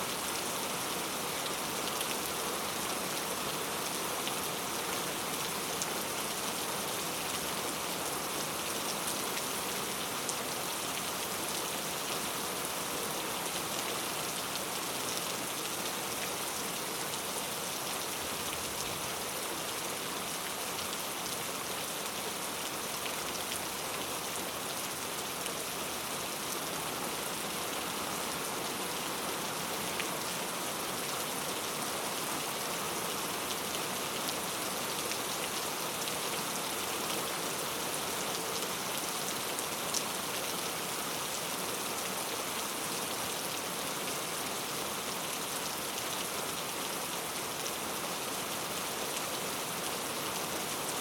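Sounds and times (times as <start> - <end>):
steady rainfall: 0.0 - 51.0.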